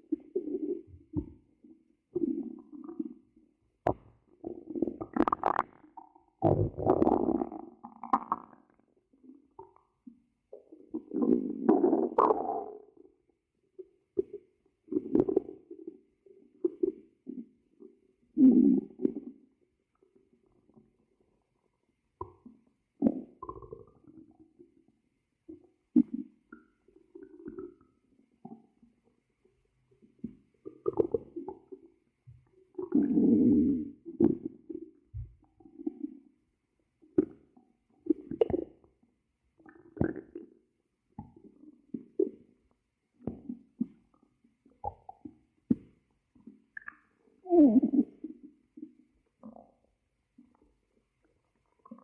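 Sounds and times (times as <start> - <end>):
stomach growling: 0.0 - 29.2, 30.0 - 36.4, 37.0 - 52.0.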